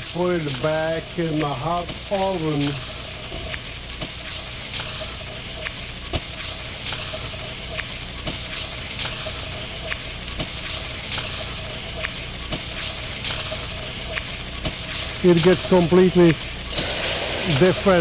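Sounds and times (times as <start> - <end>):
food sizzling in a hot pan: 0.0 - 18.0
sharp crackling pops: 0.0 - 18.0.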